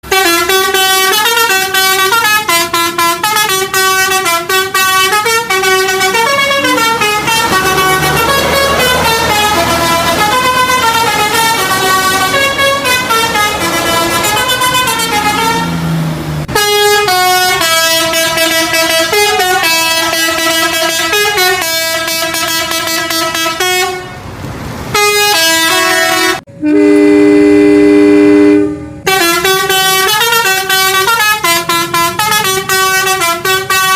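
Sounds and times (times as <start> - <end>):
musical air horns: 0.0 - 24.3, 24.9 - 33.9
long steady horn chord: 0.1 - 24.2, 24.9 - 33.9.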